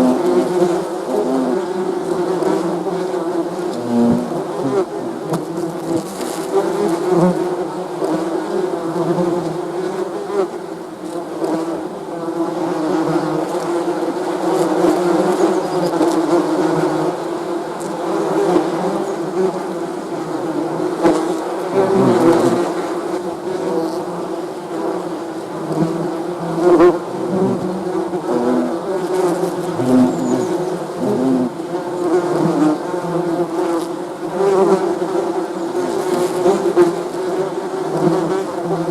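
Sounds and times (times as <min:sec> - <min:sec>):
bees buzzing: 0:00.0 - 0:38.9.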